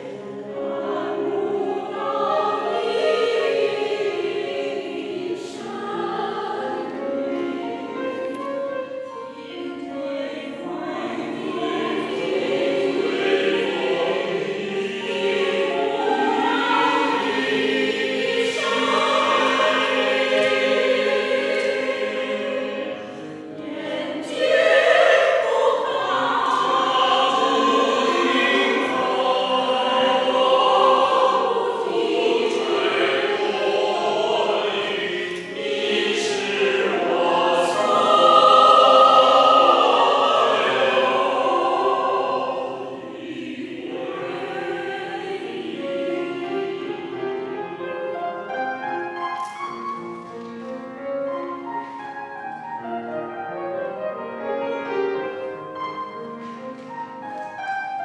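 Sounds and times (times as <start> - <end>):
mixed choir singing: 0.0 - 50.8.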